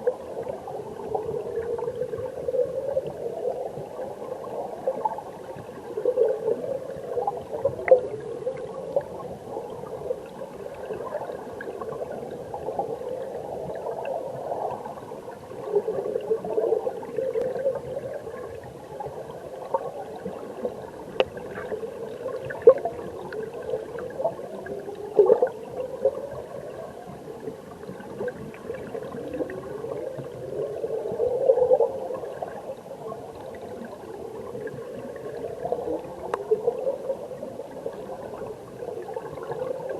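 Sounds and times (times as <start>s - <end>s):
rising sweeps of bubbles: 0.0s - 39.9s
underwater stream gurgling: 0.0s - 39.9s.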